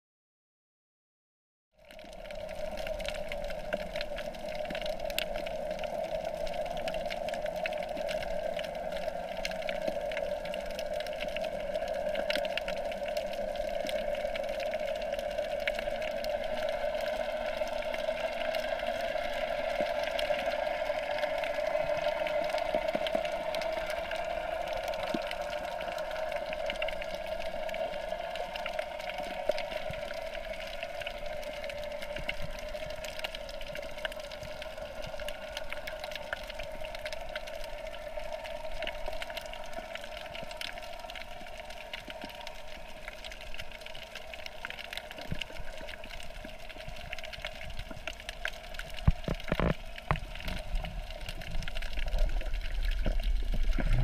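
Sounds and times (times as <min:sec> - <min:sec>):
muffled underwater hum and rush: 0:01.9 - 0:54.0.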